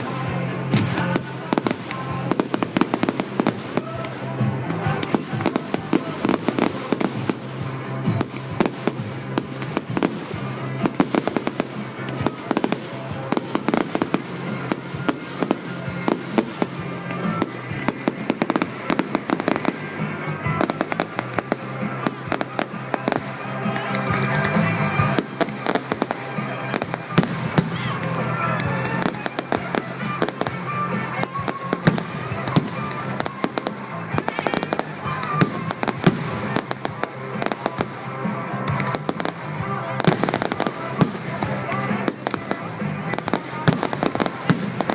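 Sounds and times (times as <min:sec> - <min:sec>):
fireworks cracks and bangs: 0:00.0 - 0:44.9.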